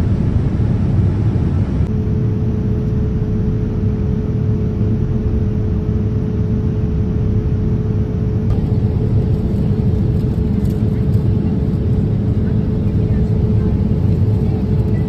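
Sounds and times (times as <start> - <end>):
airliner cabin rumble: 0.0 - 15.0
steady hum: 0.0 - 15.0.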